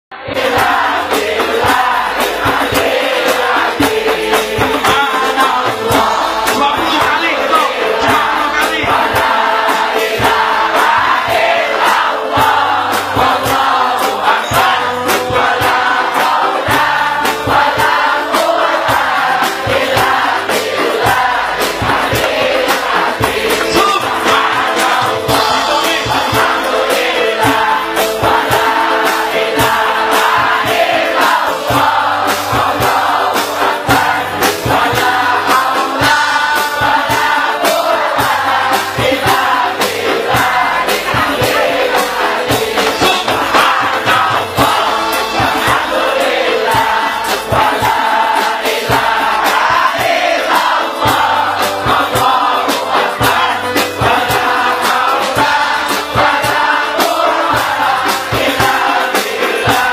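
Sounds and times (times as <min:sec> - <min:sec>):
crowd singing devotional songs: 0:00.1 - 0:59.9
loud music with drum beats: 0:00.2 - 0:59.9
steady bass: 0:00.4 - 0:56.9.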